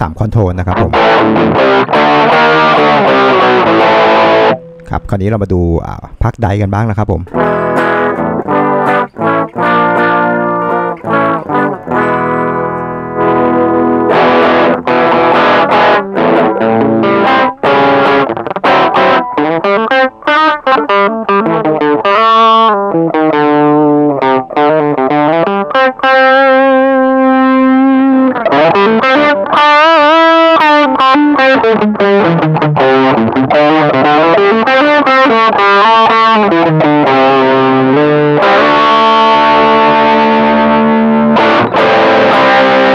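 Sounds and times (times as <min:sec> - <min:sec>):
distorted electric guitar: 0:00.0 - 0:42.9.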